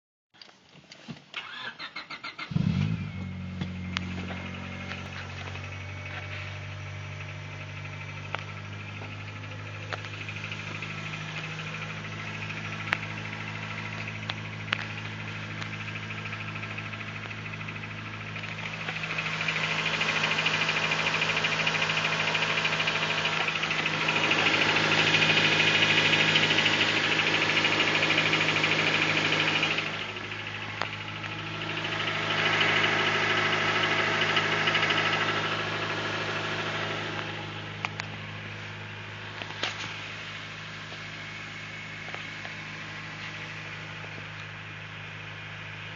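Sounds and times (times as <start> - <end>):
car engine idling: 1.3 - 45.9
engine knocking rattle: 3.8 - 45.9.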